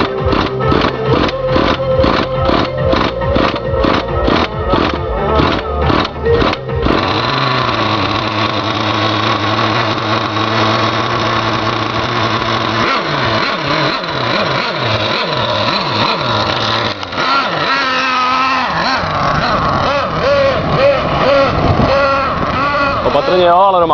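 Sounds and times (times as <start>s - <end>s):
moped two-stroke engine revving: 0.0s - 23.9s.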